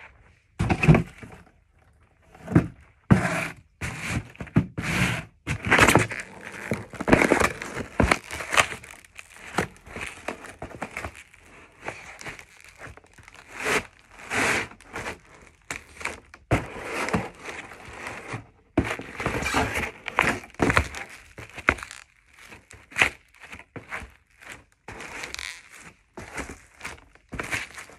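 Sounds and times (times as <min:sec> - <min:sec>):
cardboard box crunching underfoot: 0:05.5 - 0:27.9.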